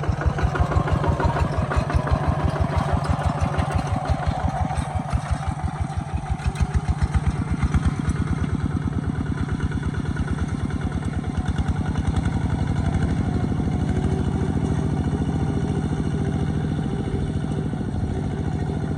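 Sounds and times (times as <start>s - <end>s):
diesel engine chugging: 0.0s - 18.9s.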